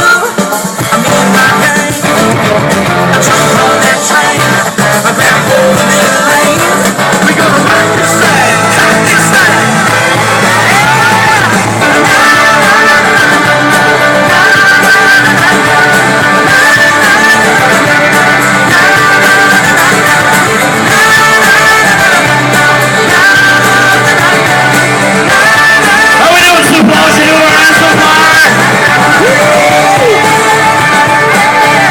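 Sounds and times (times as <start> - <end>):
guitar: 0.0 - 31.9
loud rock music: 0.0 - 31.9
person singing: 0.0 - 31.9.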